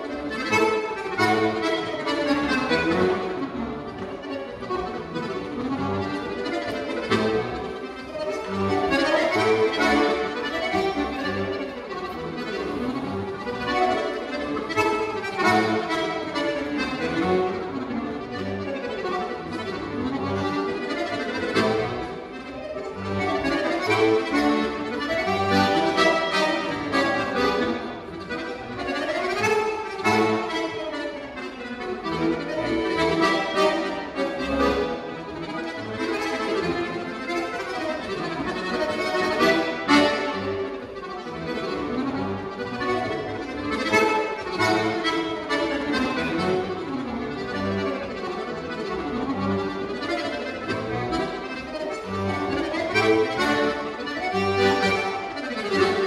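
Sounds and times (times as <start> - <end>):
accordion polka: 0.0 - 56.0.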